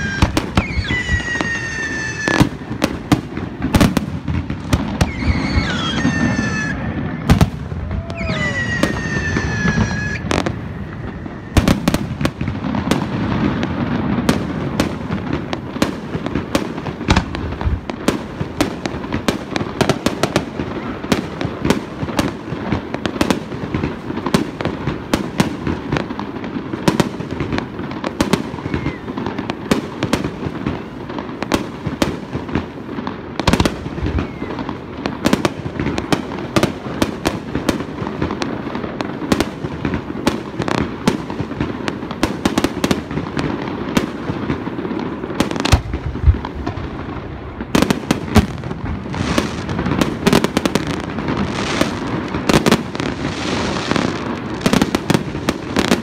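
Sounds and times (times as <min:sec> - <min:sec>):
fireworks bursting and crackling: 0:00.0 - 0:56.0.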